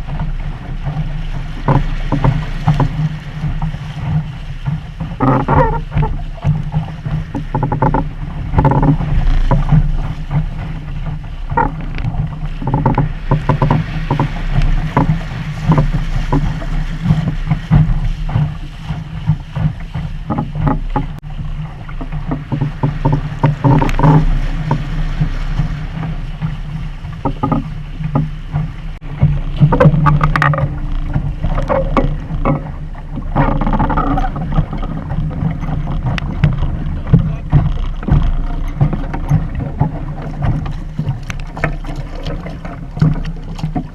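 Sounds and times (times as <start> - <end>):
water splashing against hull: 0.0 - 43.9
wind rumbling on microphone: 0.0 - 43.9.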